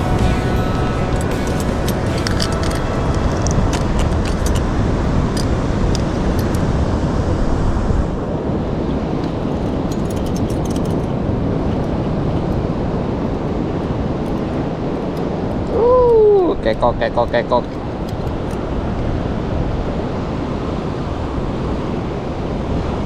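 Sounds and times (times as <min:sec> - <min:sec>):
surf at the shore: 0:00.0 - 0:23.0
wind on microphone: 0:00.0 - 0:23.0.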